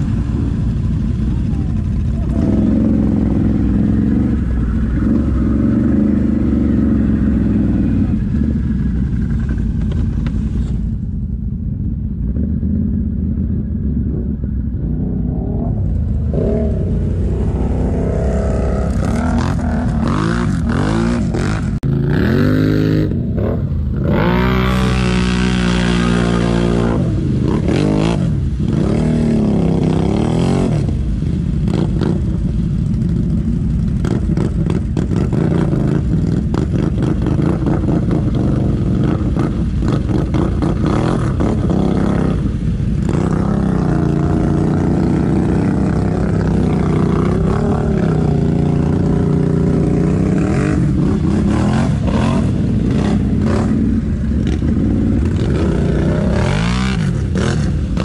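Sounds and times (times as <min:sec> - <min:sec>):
atv engine revving: 0:00.0 - 0:10.8, 0:12.2 - 0:58.0.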